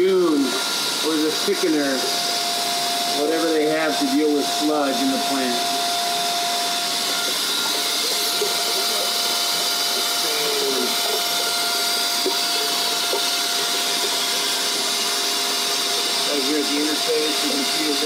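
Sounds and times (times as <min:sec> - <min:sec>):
water rushing through filter: 0:00.0 - 0:18.0.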